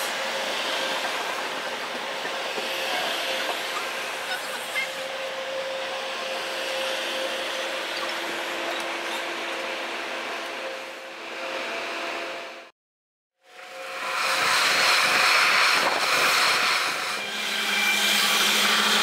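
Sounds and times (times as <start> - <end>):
train rushing noise: 0.0 - 12.7, 13.4 - 19.0.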